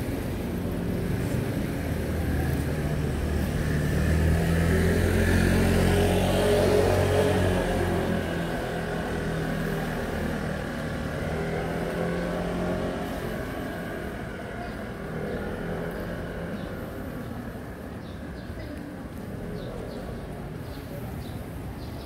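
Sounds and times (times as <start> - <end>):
street noise: 0.0 - 22.0
vehicle engine passing: 0.5 - 18.4.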